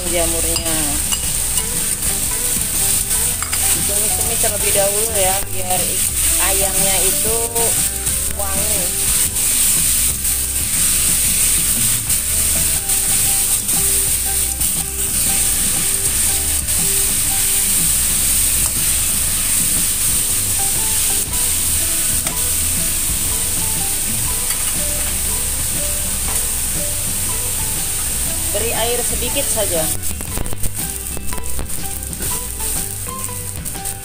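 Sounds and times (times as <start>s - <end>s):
food sizzling in a wok: 0.0s - 34.0s
spatula scraping a pan: 0.5s - 29.8s.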